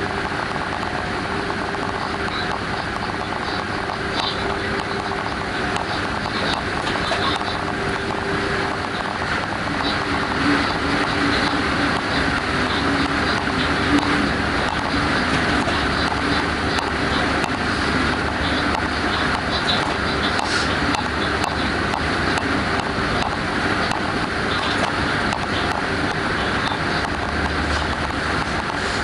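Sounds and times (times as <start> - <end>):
train rolling on rails: 0.0 - 29.0.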